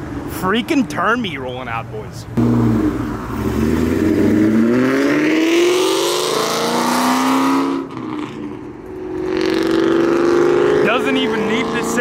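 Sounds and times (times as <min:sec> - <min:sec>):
car engine accelerating: 0:02.4 - 0:12.0.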